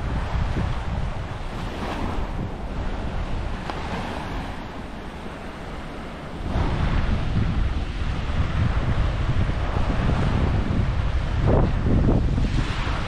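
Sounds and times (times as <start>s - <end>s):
waves washing onto beach: 0.0s - 13.0s
wind rumbling on microphone: 0.0s - 13.0s.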